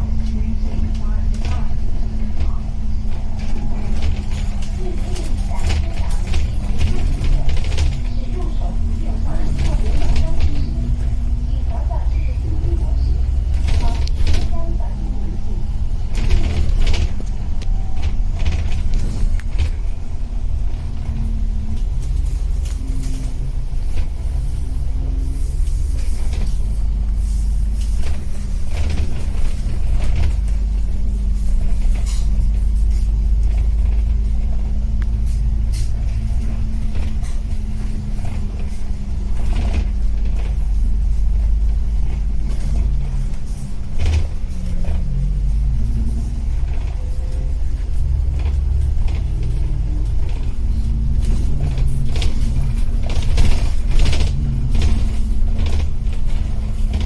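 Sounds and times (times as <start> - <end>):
vehicle engine rumbling: 0.0 - 57.0
light clicks and rattles: 0.2 - 57.0.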